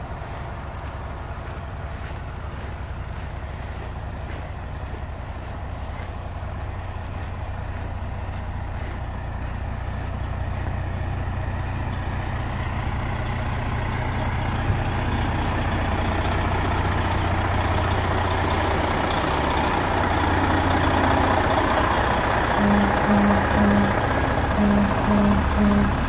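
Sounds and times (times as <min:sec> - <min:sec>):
diesel engines idling: 0:00.0 - 0:26.0.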